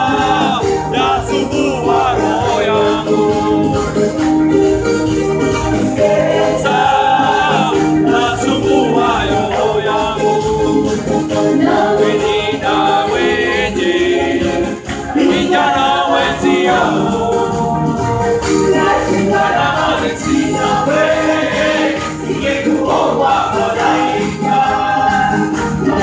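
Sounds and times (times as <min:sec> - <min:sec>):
live band playing: 0:00.0 - 0:26.0
voices singing through pa: 0:00.0 - 0:26.0.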